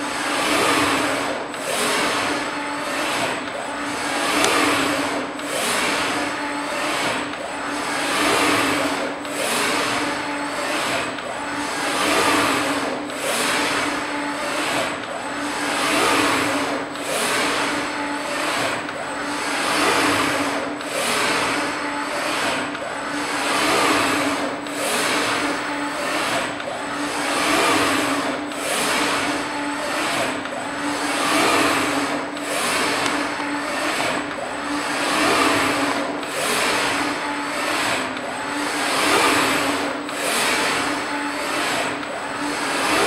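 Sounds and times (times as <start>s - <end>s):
machine axes whirring: 0.0s - 43.0s
steady machine hum: 0.0s - 43.0s.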